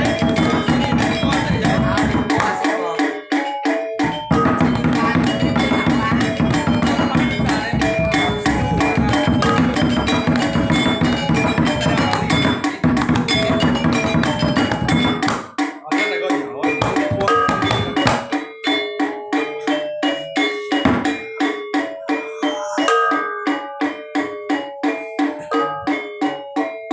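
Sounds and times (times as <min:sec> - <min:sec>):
gamelan drums: 0:00.0 - 0:26.9.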